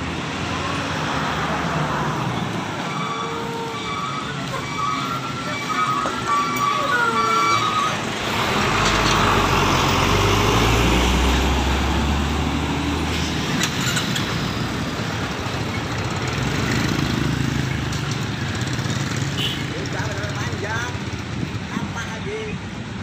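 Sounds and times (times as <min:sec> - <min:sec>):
diesel trucks passing: 0:00.0 - 0:23.0.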